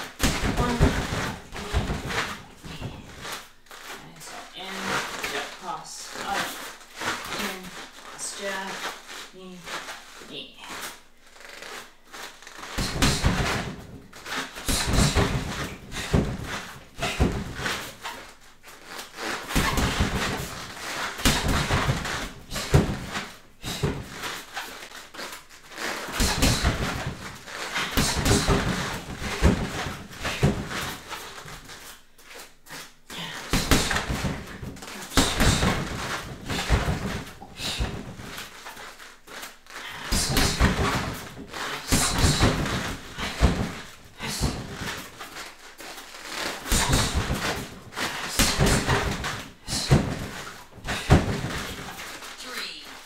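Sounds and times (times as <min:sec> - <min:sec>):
bare feet thudding on foam mats: 0:00.0 - 0:52.8.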